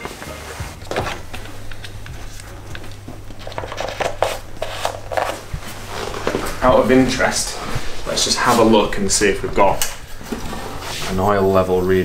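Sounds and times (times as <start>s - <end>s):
steady low hum: 0.6s - 12.0s.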